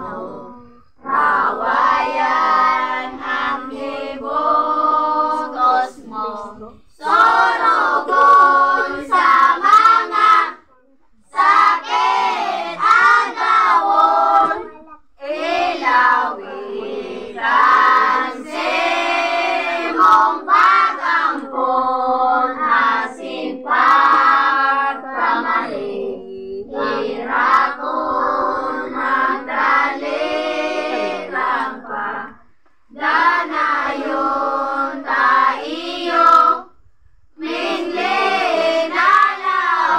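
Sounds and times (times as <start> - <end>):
children and women singing a hymn: 0.0 - 36.8, 37.4 - 39.9.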